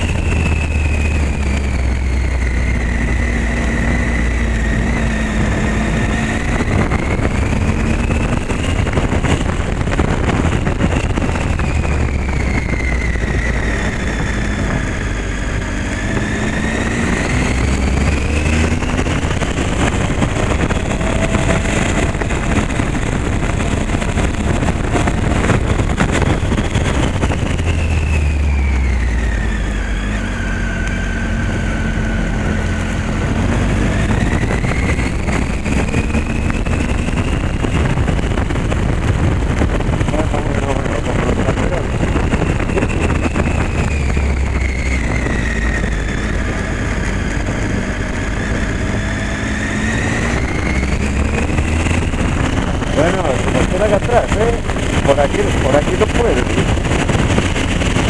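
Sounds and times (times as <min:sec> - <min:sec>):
motorcycle engine revving: 0:00.0 - 0:58.0
road noise on cobblestones: 0:00.0 - 0:58.0.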